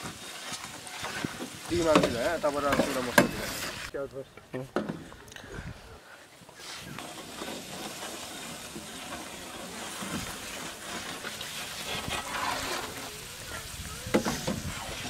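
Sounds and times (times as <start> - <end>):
gravy sizzling and bubbling in a pan: 0.0 - 4.0, 6.5 - 15.0.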